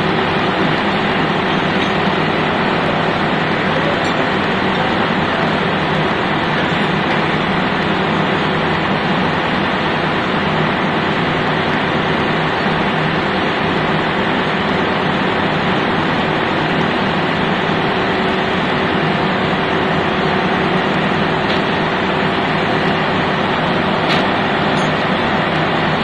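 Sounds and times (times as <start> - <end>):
engine-room machinery drone: 0.0 - 26.0.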